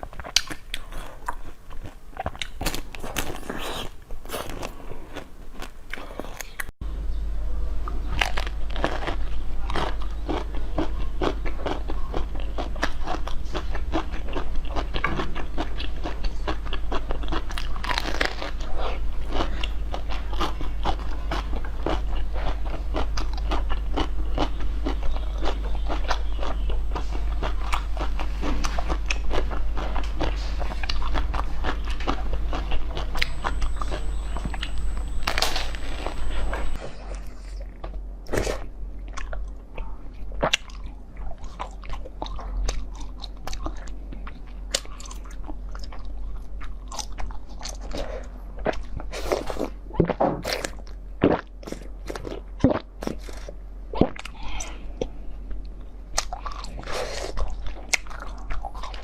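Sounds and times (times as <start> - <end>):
crunching bites and chewing: 0.0 - 6.7, 7.9 - 59.0
steady low hum: 0.0 - 59.0.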